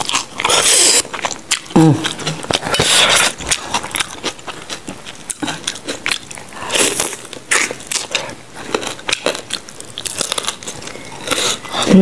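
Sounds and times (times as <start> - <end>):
wet chewing and mouth clicks: 0.0 - 12.0.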